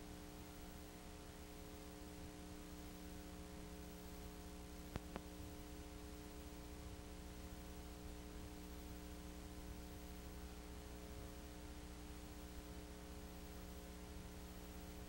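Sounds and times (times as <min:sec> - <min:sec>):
electrical mains hum with hiss: 0:00.0 - 0:15.0.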